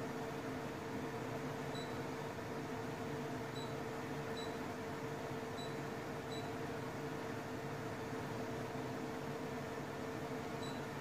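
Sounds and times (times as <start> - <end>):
air conditioner hum and fan: 0.0 - 11.0.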